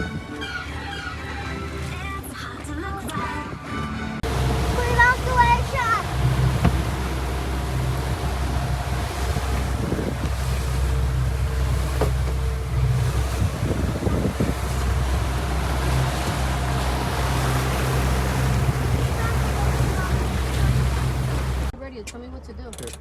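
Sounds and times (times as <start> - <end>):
wind buffeting the microphone: 0.0 - 0.6, 2.9 - 21.7
water washing: 0.0 - 21.7
boat engine running: 0.0 - 21.8.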